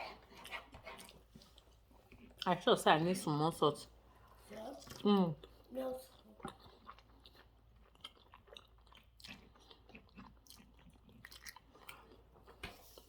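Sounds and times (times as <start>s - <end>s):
faint chewing: 0.0s - 2.7s, 4.1s - 13.0s.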